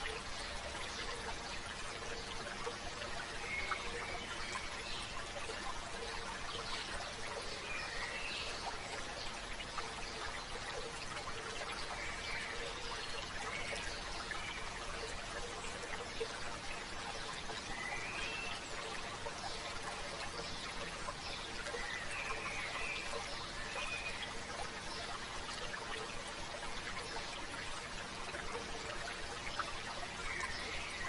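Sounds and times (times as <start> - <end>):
stream babbling: 0.0 - 31.0.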